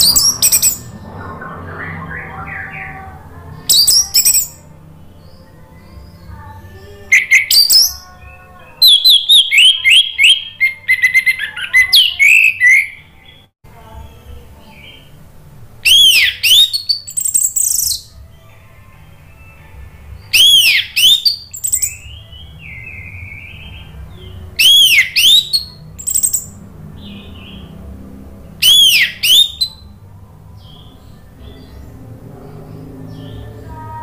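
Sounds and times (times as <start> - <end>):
thrush singing: 0.0 - 34.0.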